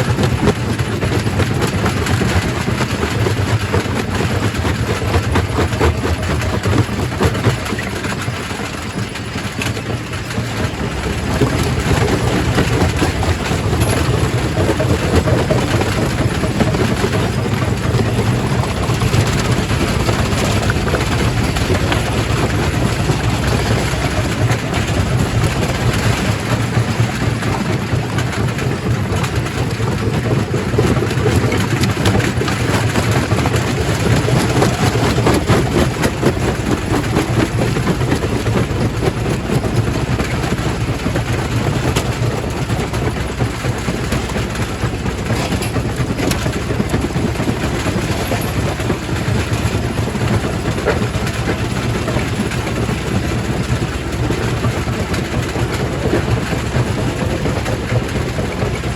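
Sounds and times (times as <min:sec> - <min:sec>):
rock crusher machine hum: 0:00.0 - 0:58.9.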